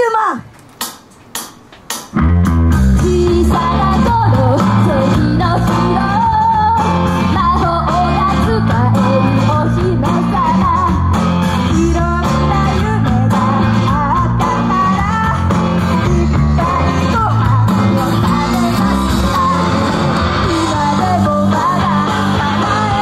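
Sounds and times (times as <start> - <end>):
live pop-rock band with guitar: 2.1 - 23.0
person singing: 3.0 - 23.0.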